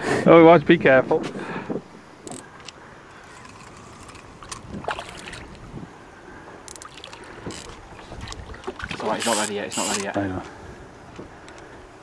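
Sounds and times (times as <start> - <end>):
water sloshing against boat: 1.8 - 11.5.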